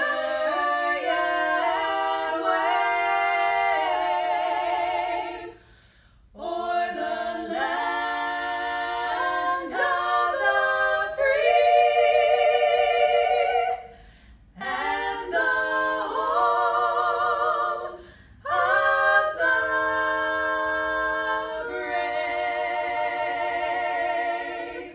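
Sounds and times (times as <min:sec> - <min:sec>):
women singing in harmony: 0:00.0 - 0:24.9.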